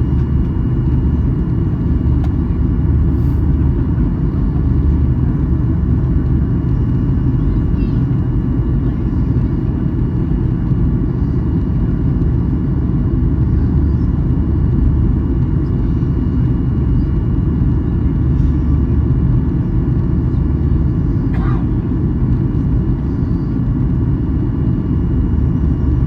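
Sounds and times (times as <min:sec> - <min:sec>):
airplane cabin roar: 0:00.0 - 0:26.0
faint steady engine tones: 0:00.0 - 0:26.0.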